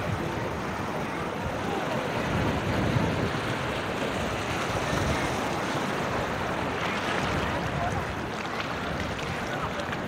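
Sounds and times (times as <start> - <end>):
waves breaking on rocky shore: 0.0 - 10.0.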